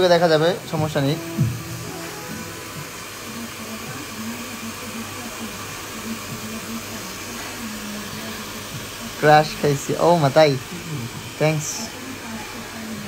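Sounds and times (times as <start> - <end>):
faint television soundtrack: 0.0 - 13.0
room noise hiss: 0.0 - 13.0.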